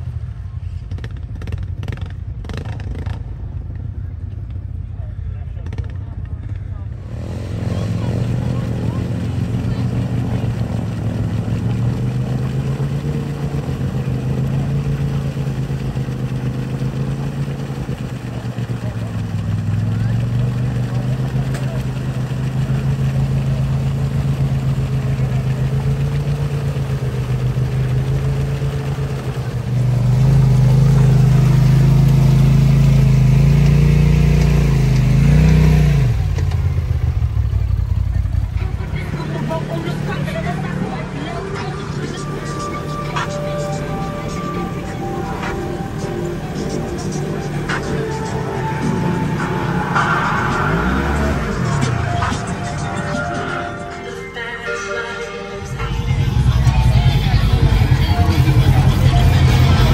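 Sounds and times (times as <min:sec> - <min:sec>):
loud engine running steadily: 0:00.0 - 0:54.4, 0:55.6 - 0:59.9.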